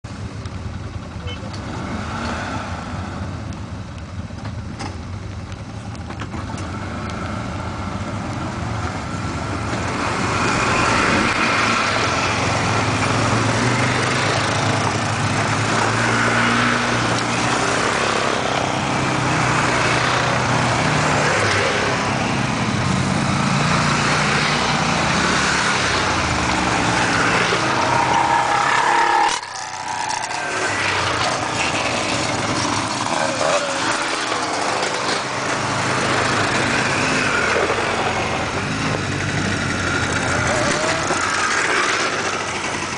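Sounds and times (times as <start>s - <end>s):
quad bike engines driving past: 0.2s - 42.9s.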